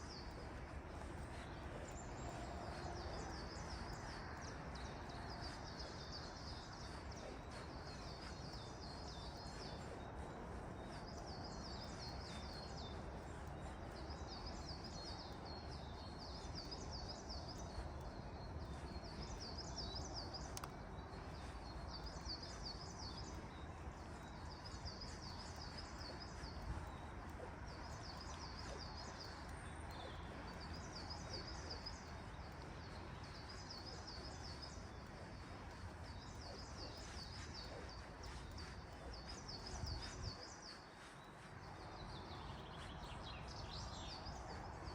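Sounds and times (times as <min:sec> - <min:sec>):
forest background hiss: 0:00.0 - 0:44.9
songbird singing: 0:00.0 - 0:44.9.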